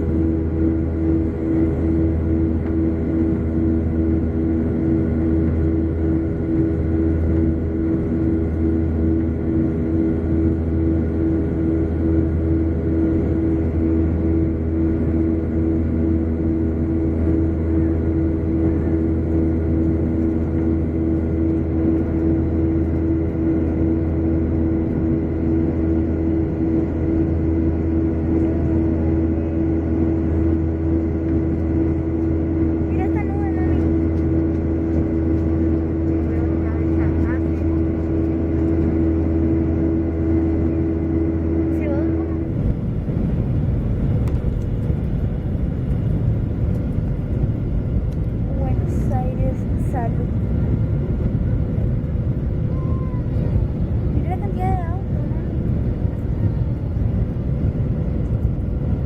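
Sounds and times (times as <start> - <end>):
airliner cabin rumble: 0.0 - 59.0
jet engine and airflow drone: 0.0 - 59.0
steady humming tone: 0.0 - 59.0.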